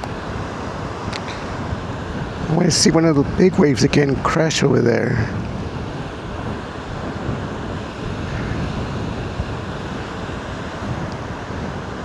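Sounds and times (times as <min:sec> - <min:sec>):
storm surf rushing onto shore: 0:00.0 - 0:12.0
wind buffeting microphone: 0:00.0 - 0:12.0.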